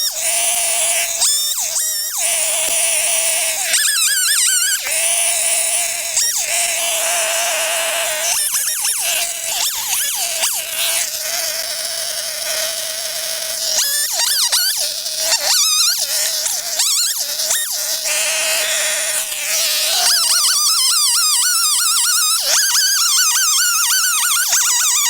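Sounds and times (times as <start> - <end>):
chainsaw running at high revs: 0.0 - 25.0.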